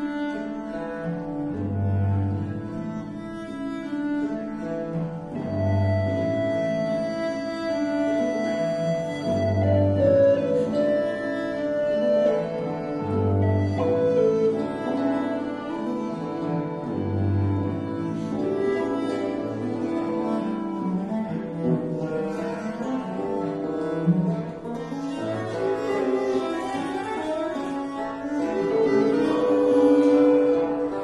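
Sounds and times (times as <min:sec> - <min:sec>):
bowed viola da gamba: 0:00.0 - 0:31.0.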